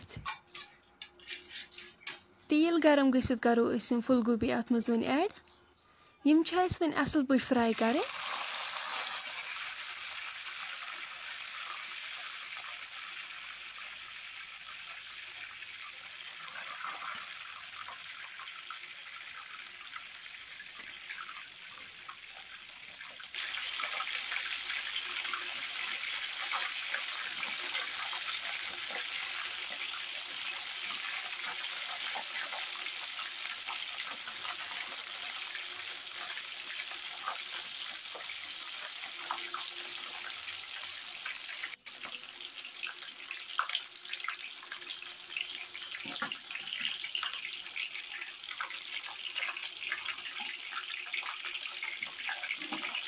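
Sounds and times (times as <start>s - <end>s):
cauliflower frying in hot oil: 7.5s - 53.0s.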